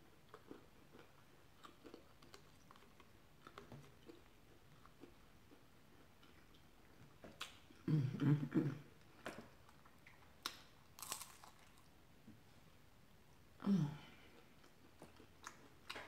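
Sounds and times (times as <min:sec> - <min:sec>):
crunching and chewing food: 0:00.0 - 0:07.9, 0:08.9 - 0:12.4, 0:14.0 - 0:16.0.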